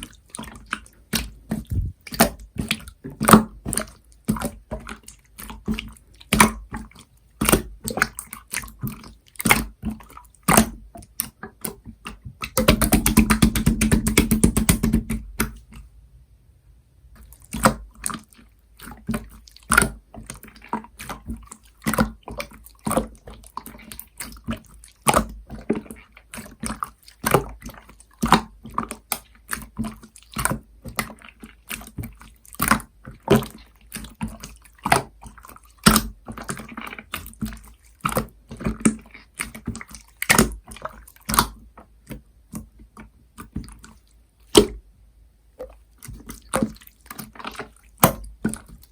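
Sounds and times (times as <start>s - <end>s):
slime squelching: 0.0s - 16.0s, 17.1s - 44.9s, 45.5s - 48.9s.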